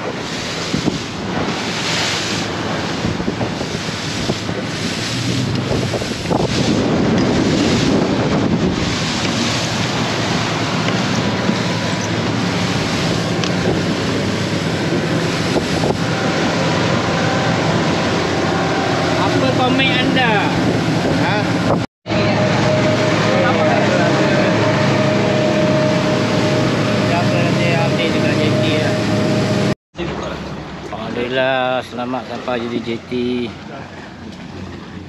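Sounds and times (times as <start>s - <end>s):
wind buffeting microphone: 0.0s - 29.8s
boat engine drone: 0.0s - 35.0s
water rushing past boat hull: 0.0s - 35.0s.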